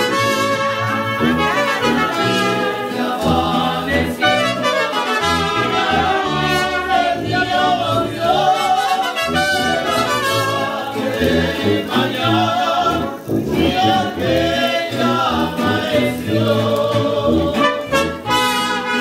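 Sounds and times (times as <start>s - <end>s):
brass instruments playing: 0.0s - 19.0s
voices singing: 0.0s - 19.0s.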